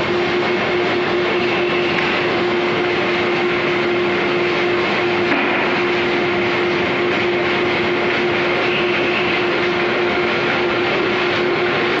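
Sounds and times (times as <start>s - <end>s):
conveyor machine running: 0.0s - 12.0s.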